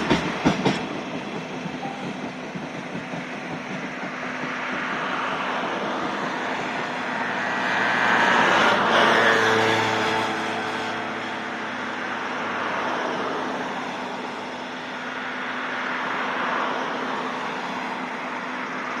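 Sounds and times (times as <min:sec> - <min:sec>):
freight train rolling rumble: 0:00.0 - 0:19.0.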